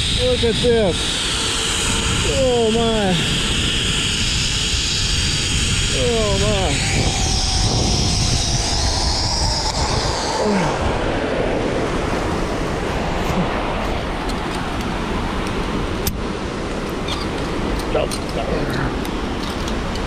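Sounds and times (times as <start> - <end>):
wind on microphone: 0.0 - 20.0
zipline trolley whine: 0.0 - 20.0.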